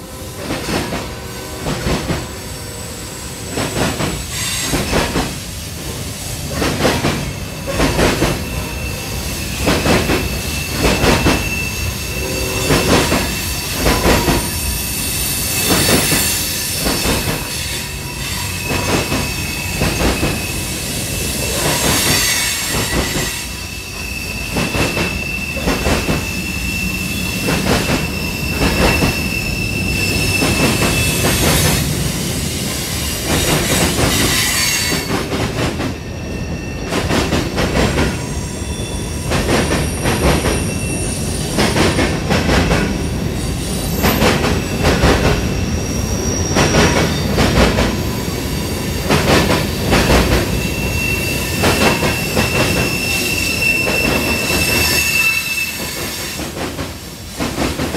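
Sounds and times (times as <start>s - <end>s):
high wheel squeal: 7.2s - 35.3s, 35.9s - 42.0s, 42.9s - 56.6s.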